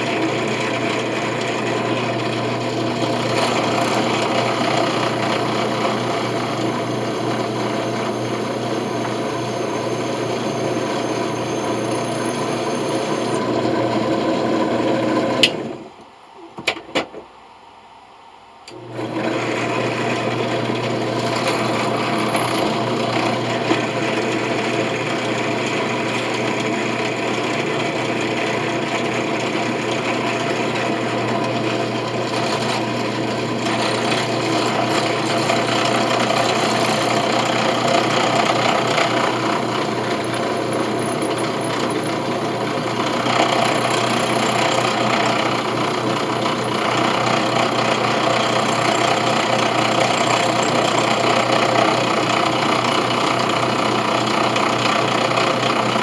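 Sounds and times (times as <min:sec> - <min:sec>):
electric drill drilling metal: 0:00.0 - 0:15.6, 0:19.0 - 0:56.0.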